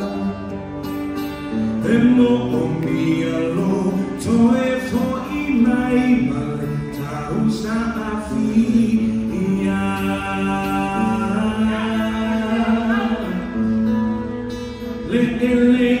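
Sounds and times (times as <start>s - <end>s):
live instrumental accompaniment: 0.0s - 16.0s.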